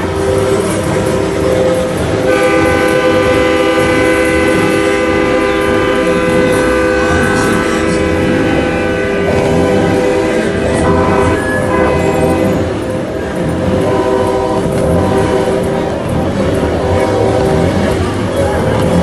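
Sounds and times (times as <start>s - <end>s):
truck air horns: 1.4s - 19.0s.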